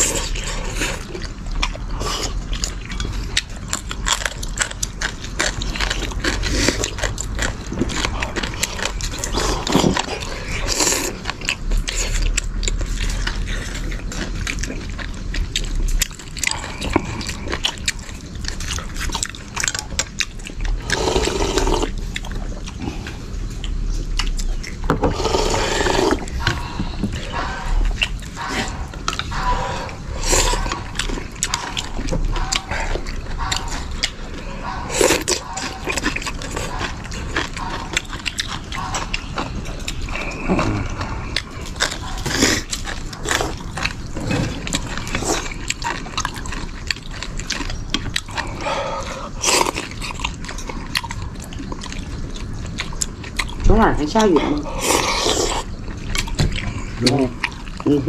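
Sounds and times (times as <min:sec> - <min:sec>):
chewing and slurping noodles: 0:00.0 - 0:58.0.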